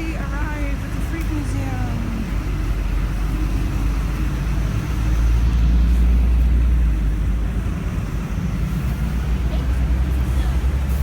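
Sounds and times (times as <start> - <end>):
traffic noise: 0.0 - 11.0
vehicle passing rumble: 0.0 - 11.0.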